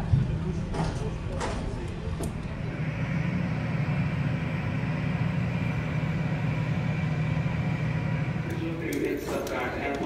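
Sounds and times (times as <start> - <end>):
jet engines idling: 0.3 - 10.0
faint engine whine: 1.8 - 10.0.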